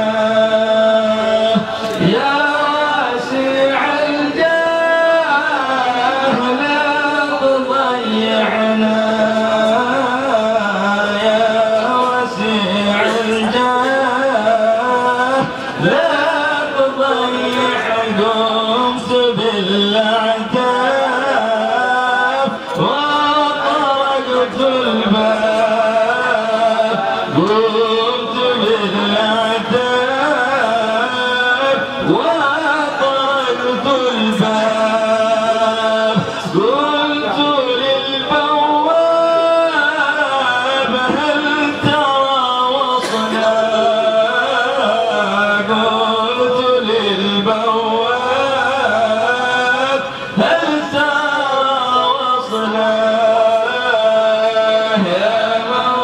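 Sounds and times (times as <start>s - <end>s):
men chanting devotional song: 0.0s - 56.0s.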